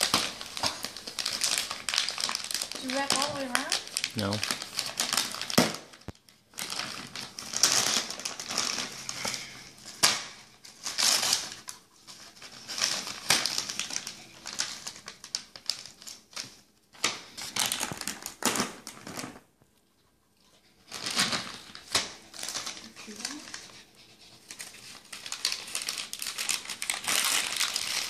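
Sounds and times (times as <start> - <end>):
wrapping paper crinkling and tearing: 0.0 - 19.5, 20.6 - 28.0.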